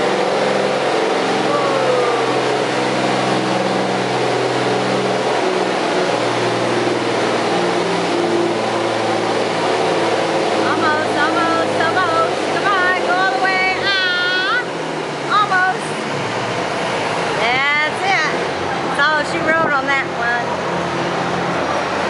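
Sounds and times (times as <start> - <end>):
tractor engine under full load: 0.0 - 22.0.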